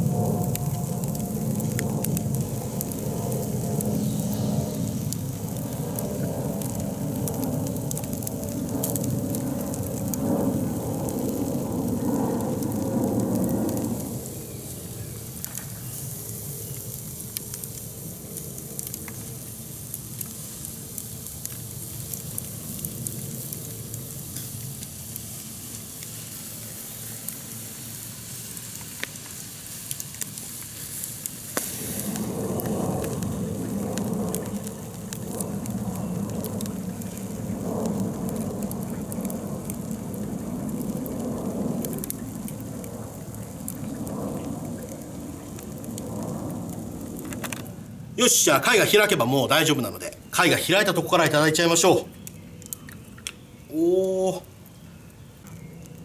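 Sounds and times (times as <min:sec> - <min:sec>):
campfire crackling: 0:00.0 - 0:56.0
clams sizzling on a grill: 0:00.0 - 0:56.0.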